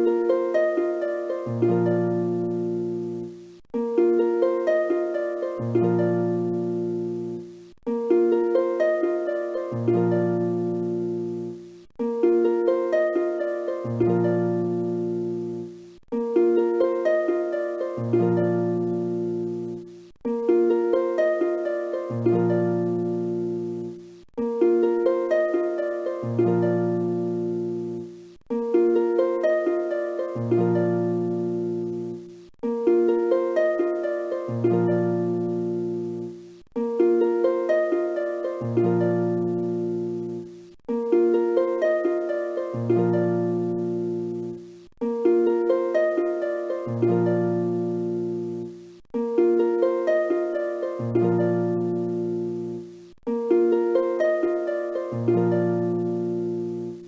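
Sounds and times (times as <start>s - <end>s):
plucked melody music: 0.0s - 57.0s.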